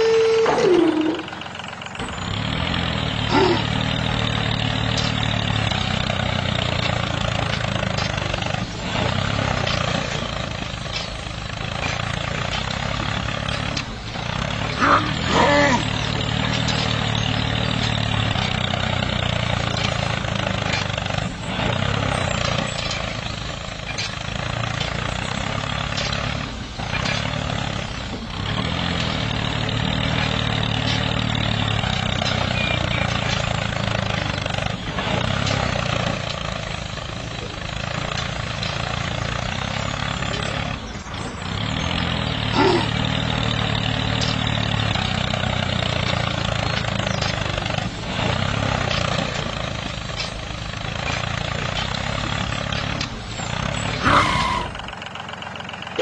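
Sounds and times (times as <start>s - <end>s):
small tractor motor running: 0.0s - 56.0s.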